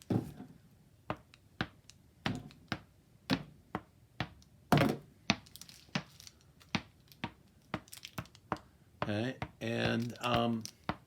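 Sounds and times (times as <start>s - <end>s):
ball bouncing on a paddle: 1.1s - 6.1s, 6.7s - 11.0s.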